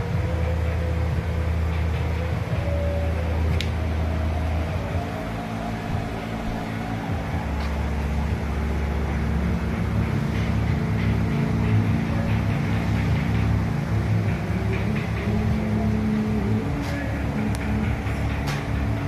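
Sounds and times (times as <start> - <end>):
deep sustained bass notes: 0.0 - 19.0.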